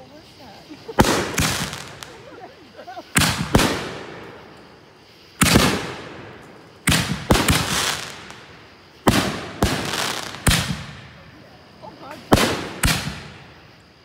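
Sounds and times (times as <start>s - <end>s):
firework shells bursting: 0.8s - 14.0s.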